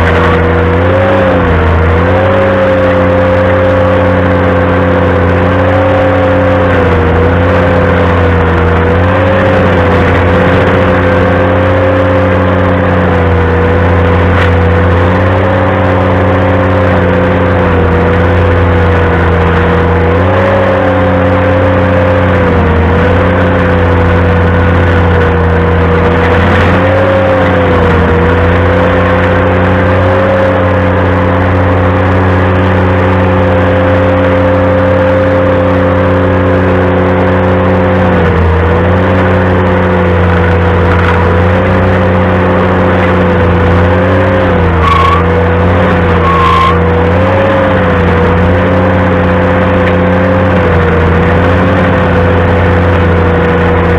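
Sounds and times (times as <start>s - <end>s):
tractor engine running stump grinder: 0.0s - 53.9s.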